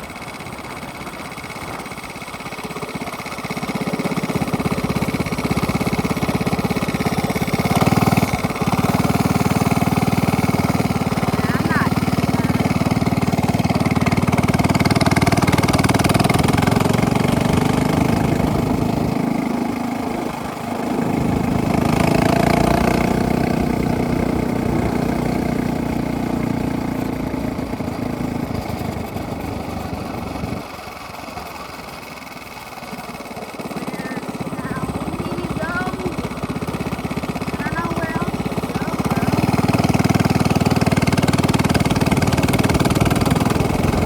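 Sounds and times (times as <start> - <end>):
minibike engine revving: 0.0 - 44.0.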